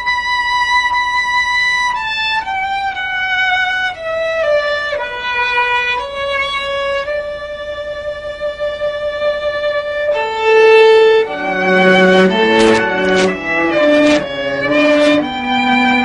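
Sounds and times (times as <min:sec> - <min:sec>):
solo violin slow melody: 0:00.0 - 0:16.0.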